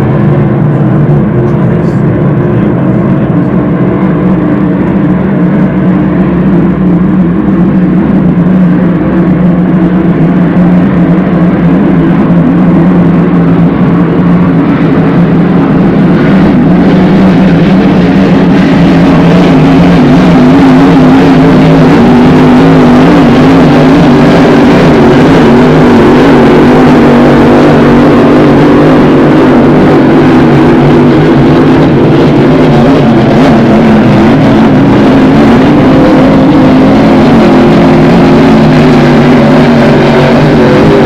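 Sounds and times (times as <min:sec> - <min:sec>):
racing boat engines roaring: 0:00.0 - 0:41.0.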